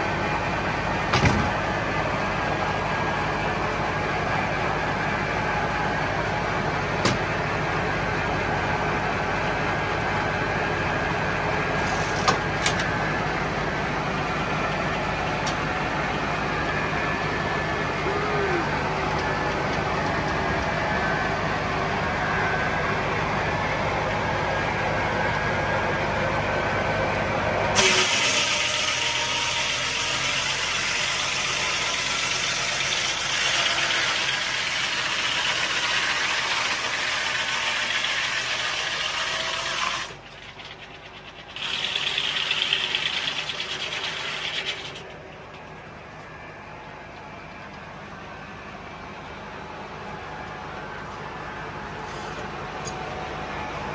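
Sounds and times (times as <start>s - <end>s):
tractor engine humming: 0.0s - 27.8s, 32.6s - 53.9s.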